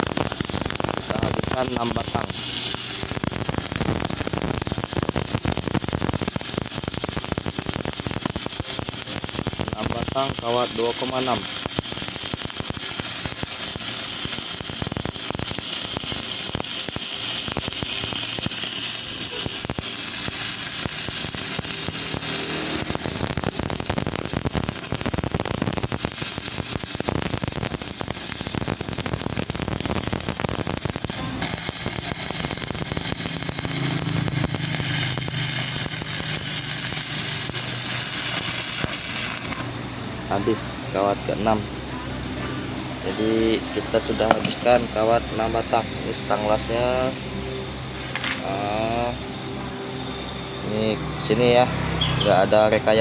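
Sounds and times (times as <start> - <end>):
welding arc crackling: 0.0 - 49.3.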